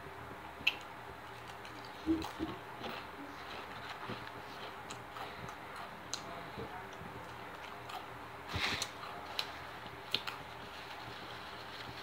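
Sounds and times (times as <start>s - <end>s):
chewing crunchy chips: 0.6s - 6.3s, 6.9s - 12.0s.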